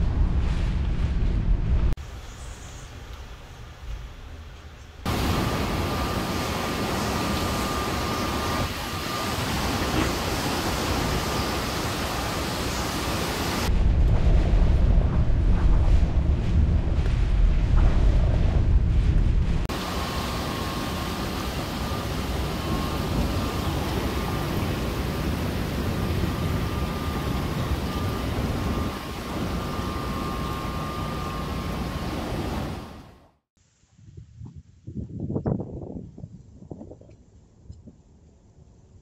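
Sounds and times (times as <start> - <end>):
wind and driving rain hissing: 0.0 - 39.0
wind gusts buffeting microphone: 5.1 - 33.0, 34.0 - 38.0.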